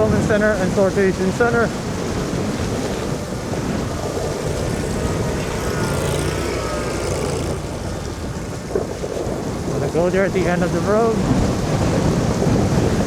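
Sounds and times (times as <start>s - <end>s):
scooter road noise in snow: 0.0s - 13.0s
wind on microphone: 0.0s - 13.0s.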